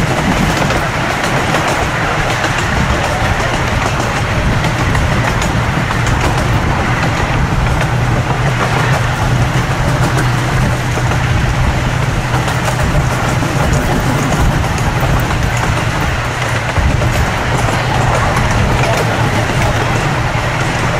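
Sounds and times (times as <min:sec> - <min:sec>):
small train rumbling on track: 0:00.0 - 0:20.9
wheels clicking on rails: 0:00.0 - 0:20.9.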